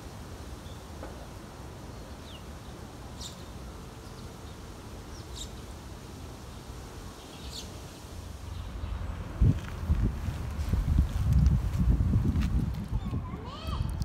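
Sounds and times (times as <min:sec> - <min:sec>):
low outdoor rumble: 0:01.0 - 0:14.0.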